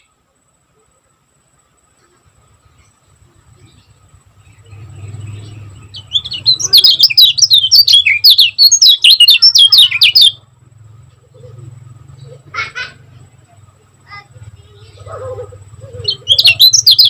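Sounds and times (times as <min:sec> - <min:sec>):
bird chirping: 0:00.0 - 0:17.0
faint low hum: 0:00.0 - 0:17.0.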